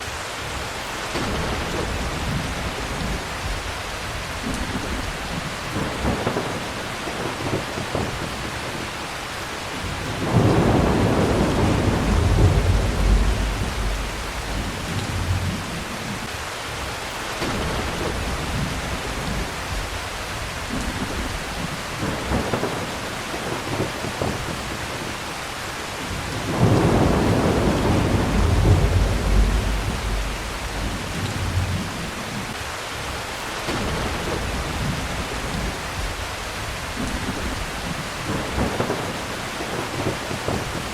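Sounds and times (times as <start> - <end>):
heavy rain falling: 0.0 - 40.9
rolling thunder: 0.6 - 9.0, 9.7 - 16.3, 17.4 - 25.2, 26.0 - 32.6, 33.7 - 40.9.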